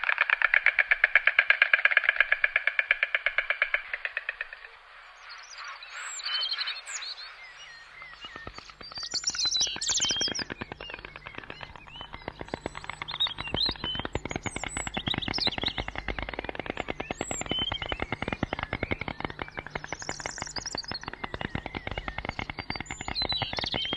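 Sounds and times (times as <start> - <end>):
fast rattle of clicks: 0.0 - 4.7, 8.0 - 23.9
small birds chirping: 3.1 - 23.9.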